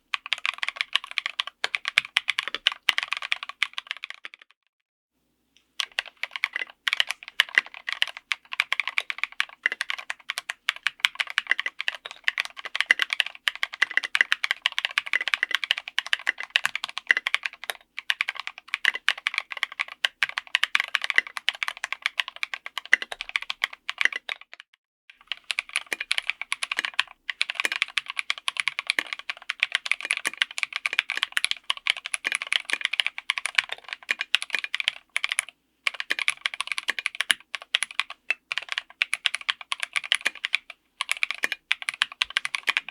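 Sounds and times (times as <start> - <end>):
typing on mechanical keyboard: 0.0 - 4.5, 5.8 - 42.9.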